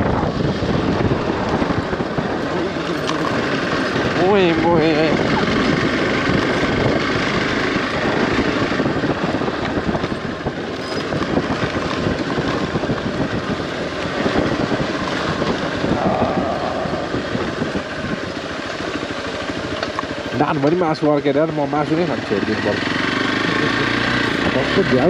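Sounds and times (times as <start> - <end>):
wind noise on microphone: 0.0 - 20.5
motorcycle engine at low speed: 0.0 - 25.0.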